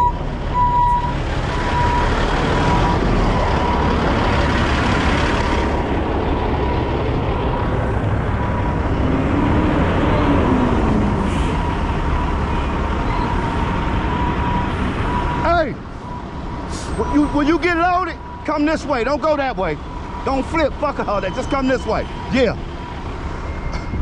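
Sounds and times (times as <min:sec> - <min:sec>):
diesel truck engines rumbling: 0:00.0 - 0:24.0
road noise: 0:00.0 - 0:24.0.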